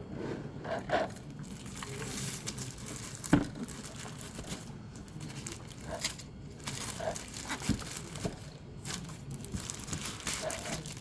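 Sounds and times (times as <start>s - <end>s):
box packaging rustling: 1.1s - 11.0s.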